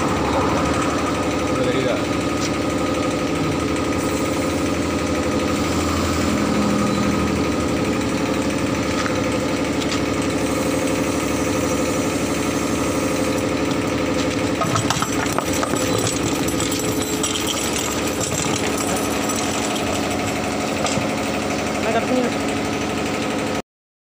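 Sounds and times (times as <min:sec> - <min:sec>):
air pump pulsing: 0:00.0 - 0:23.6.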